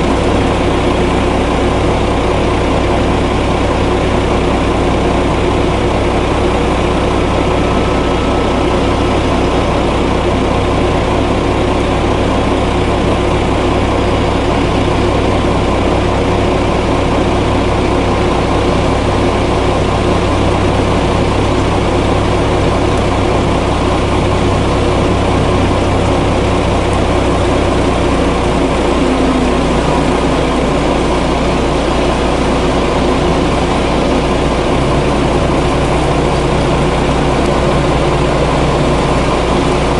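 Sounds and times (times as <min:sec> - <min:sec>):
diesel engines idling: 0:00.0 - 0:39.9.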